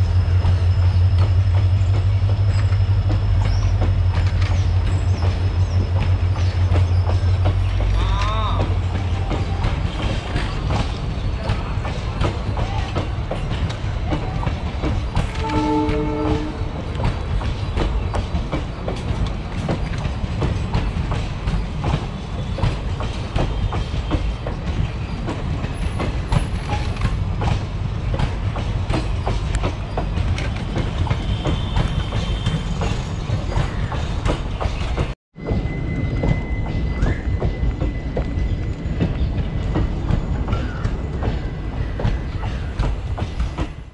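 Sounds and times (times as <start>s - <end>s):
train wheels clattering over rails: 0.0s - 43.9s.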